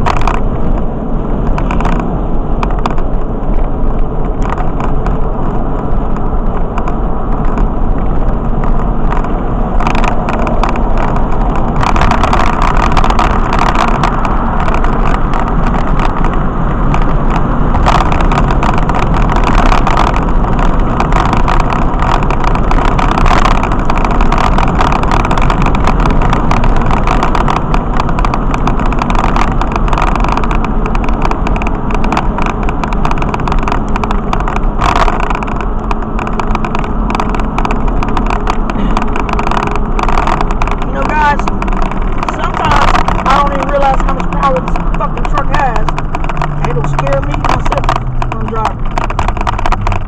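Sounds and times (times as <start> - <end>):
road vehicle cruising: 0.0 - 50.0.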